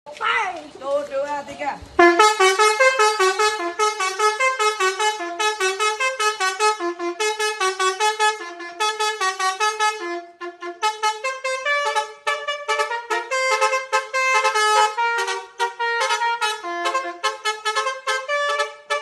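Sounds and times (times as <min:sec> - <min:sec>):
bus musical horn playing tune: 0:02.0 - 0:19.0.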